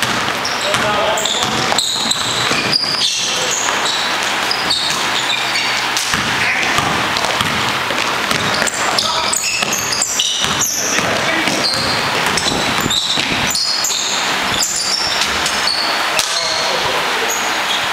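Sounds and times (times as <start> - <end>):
basketball bouncing on gym floor: 0.0 - 16.4
sneaker squeaks on court: 0.0 - 16.7
players running: 0.0 - 17.2.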